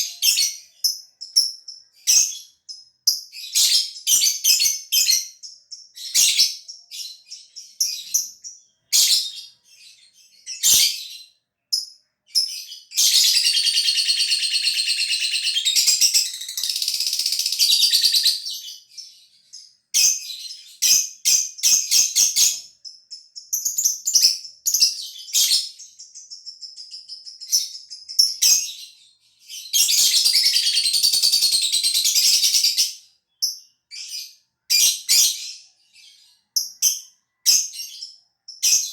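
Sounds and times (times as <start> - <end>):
lovebird chirping and trilling: 0.0 - 38.9.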